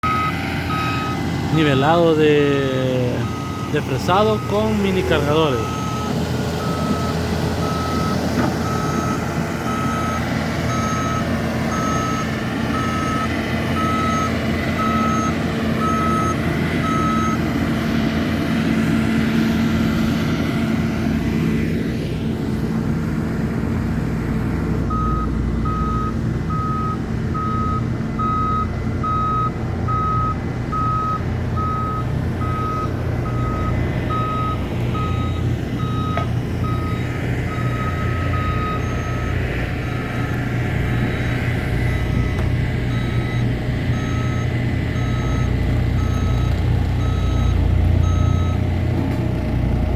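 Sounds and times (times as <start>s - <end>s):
reversing alarm beeping: 0.0s - 17.4s, 24.9s - 48.8s
diesel engines running: 0.0s - 49.9s.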